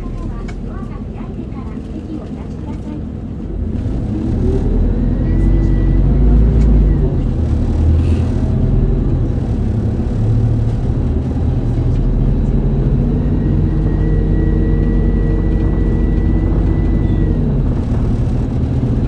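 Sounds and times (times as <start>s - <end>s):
bus diesel engine drone: 0.0s - 19.0s
road noise: 0.0s - 19.0s.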